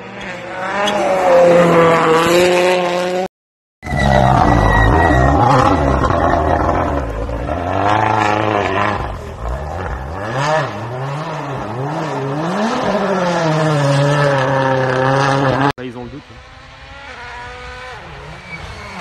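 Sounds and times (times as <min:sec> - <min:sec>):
rally car engine revving: 0:00.0 - 0:03.3, 0:03.9 - 0:19.0.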